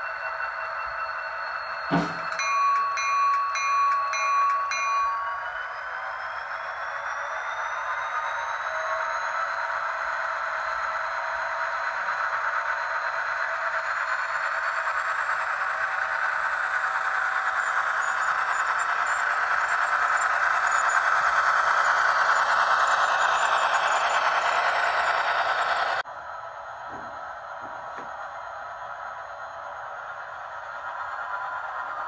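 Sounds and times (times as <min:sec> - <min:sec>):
diesel engine from small speaker: 0:05.3 - 0:32.0.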